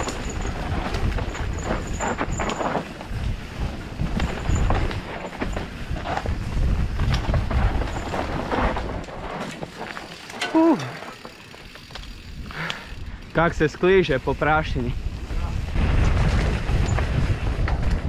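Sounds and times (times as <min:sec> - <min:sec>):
bike rattling over bumps: 0:00.0 - 0:18.0
bike tyres rumbling on dirt: 0:00.0 - 0:18.0.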